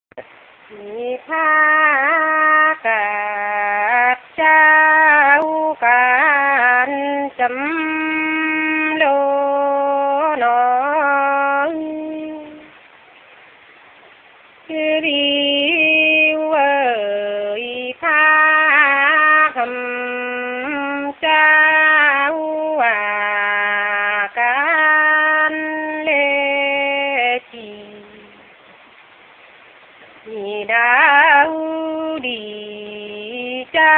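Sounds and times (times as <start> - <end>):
person singing unaccompanied: 0.1 - 12.9, 14.5 - 28.7, 30.0 - 33.9.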